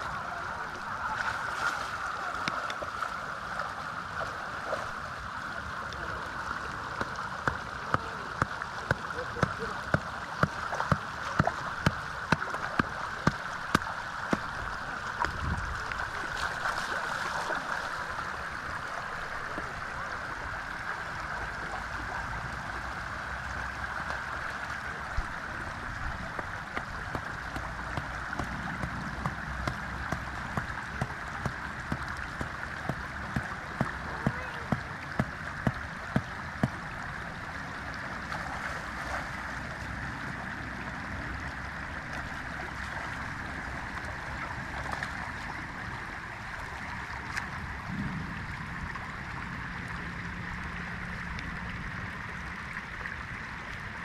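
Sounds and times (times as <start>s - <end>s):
floodwater rushing across road: 0.0s - 54.0s.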